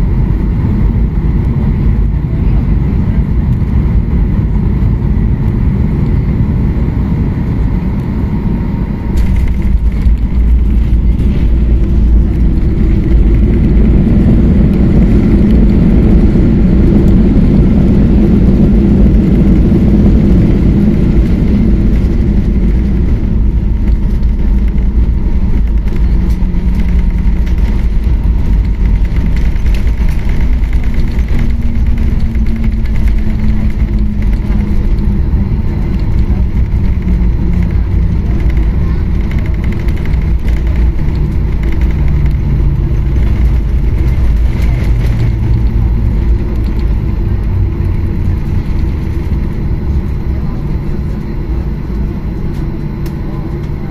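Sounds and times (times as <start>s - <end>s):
jet engine and airflow rumble: 0.0s - 53.9s
reverse thrust engine roar: 0.0s - 53.9s.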